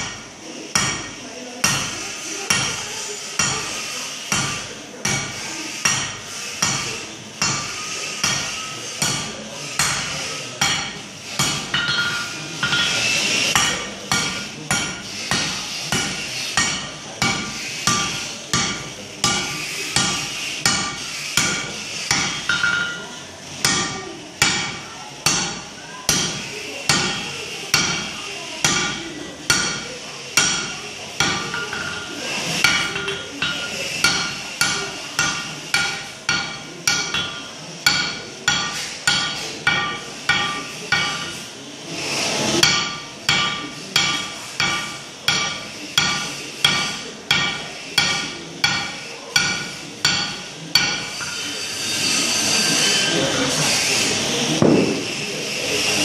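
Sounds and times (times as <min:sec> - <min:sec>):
hammer ringing on hot metal: 0:00.0 - 0:41.5, 0:42.4 - 0:52.2.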